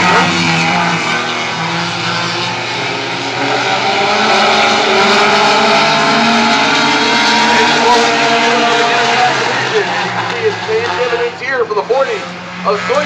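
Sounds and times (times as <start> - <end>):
race car engines lapping: 0.0 - 13.0.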